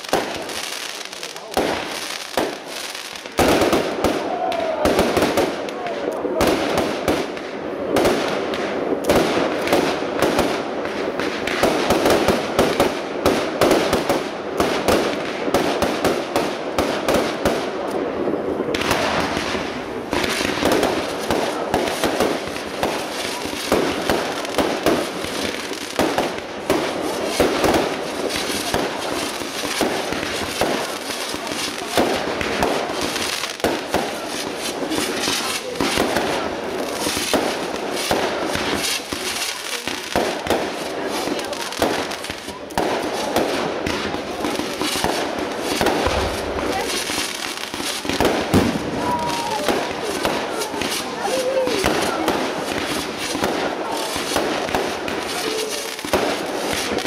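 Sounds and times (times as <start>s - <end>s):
fireworks bangs and bursts: 0.0s - 57.0s.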